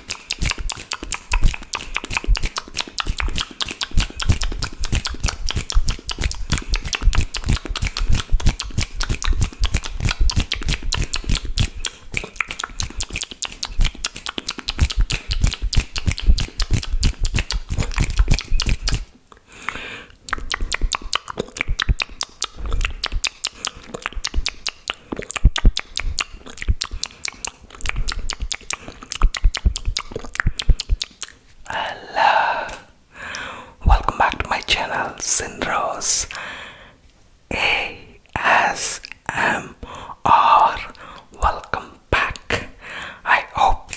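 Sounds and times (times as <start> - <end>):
tongue clicks: 0.0 - 31.9, 32.5 - 36.4, 38.2 - 43.9
lip smacks: 0.0 - 36.5, 38.2 - 43.9.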